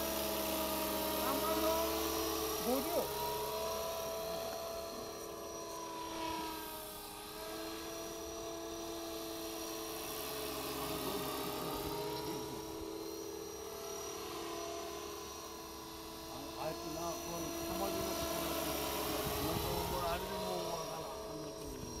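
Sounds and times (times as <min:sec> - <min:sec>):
rc helicopter motor and rotor whine: 0:00.0 - 0:22.0.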